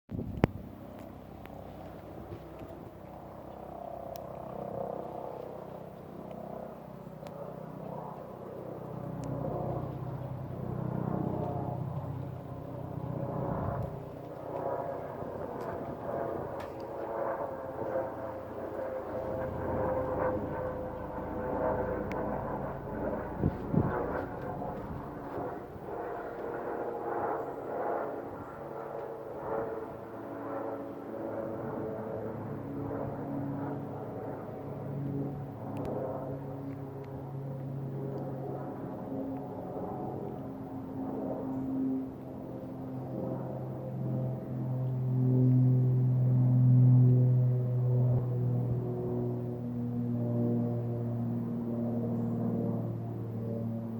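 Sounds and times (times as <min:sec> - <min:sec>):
helicopter flying over: 0:00.1 - 0:53.9.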